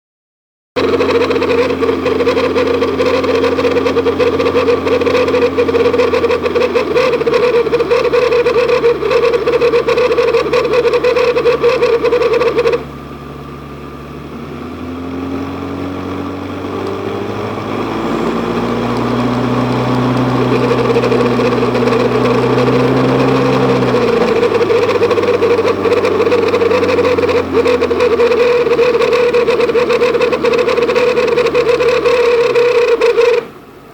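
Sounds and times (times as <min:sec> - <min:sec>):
car engine: 0:00.8 - 0:33.9
high gearbox drone: 0:00.8 - 0:33.9
road noise: 0:00.8 - 0:33.9.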